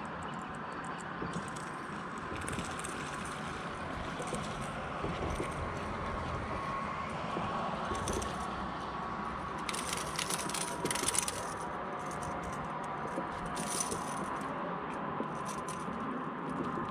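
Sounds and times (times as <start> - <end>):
open water background noise: 0.0 - 16.9.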